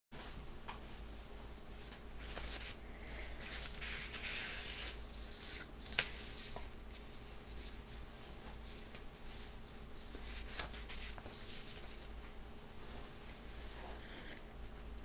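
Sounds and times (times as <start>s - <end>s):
soft rustling: 0.2s - 15.0s.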